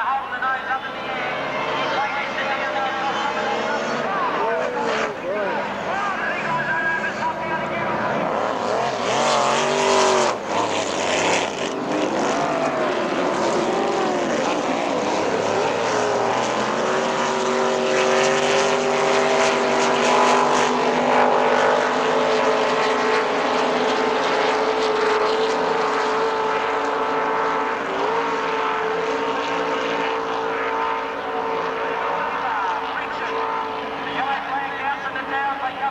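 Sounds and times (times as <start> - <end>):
powerboat engine running hard: 0.0 - 35.9.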